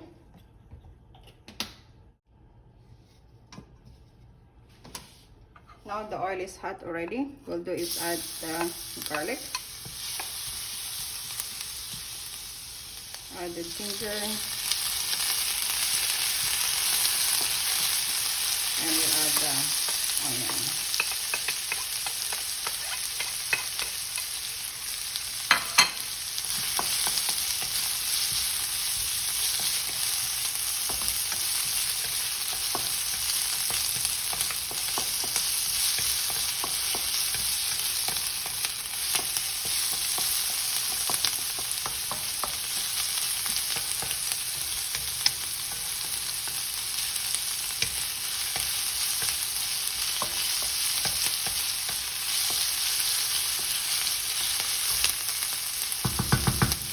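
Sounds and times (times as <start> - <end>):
aromatics sizzling in oil: 7.7 - 56.9.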